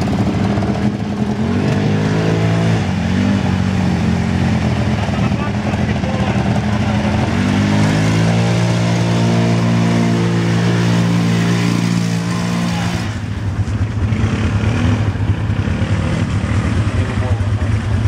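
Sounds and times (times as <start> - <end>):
quad bike engine revving: 0.0 - 18.0
water and mud splashing: 0.0 - 18.0.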